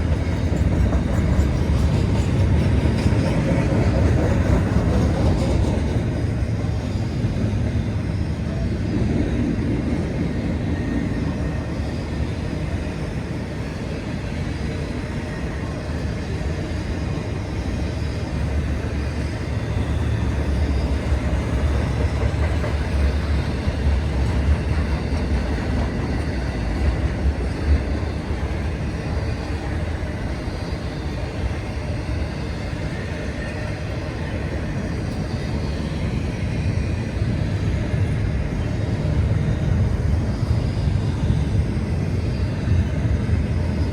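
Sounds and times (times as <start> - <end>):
freight train wheels rumbling on rail: 0.0 - 43.9.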